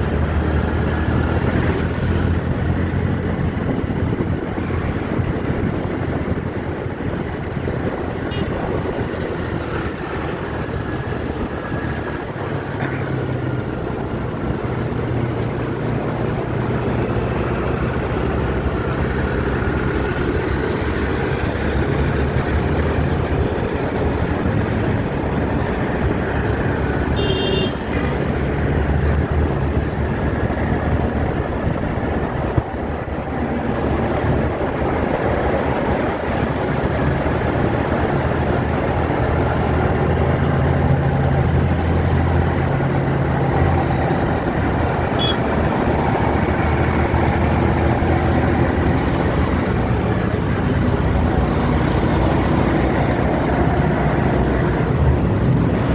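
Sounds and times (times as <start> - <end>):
city road traffic: 0.0 - 55.9.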